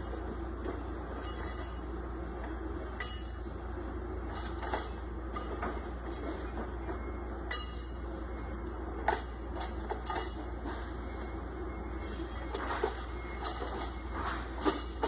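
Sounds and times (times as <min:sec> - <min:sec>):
factory machinery hum: 0:00.0 - 0:15.0.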